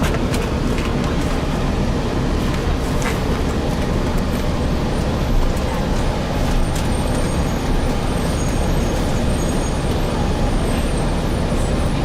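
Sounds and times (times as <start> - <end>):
bus low rumble: 0.0 - 12.0.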